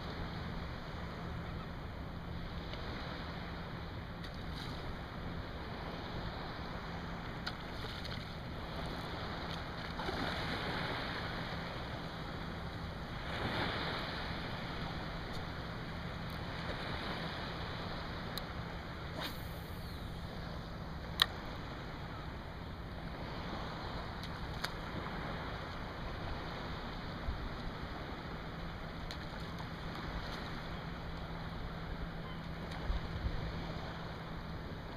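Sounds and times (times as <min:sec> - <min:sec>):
small waves lapping: 0:00.0 - 0:34.9
wind: 0:00.0 - 0:34.9.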